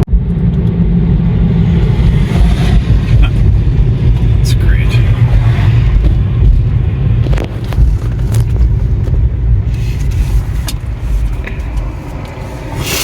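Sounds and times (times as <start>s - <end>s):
road and tyre rumble inside car: 0.0s - 13.0s.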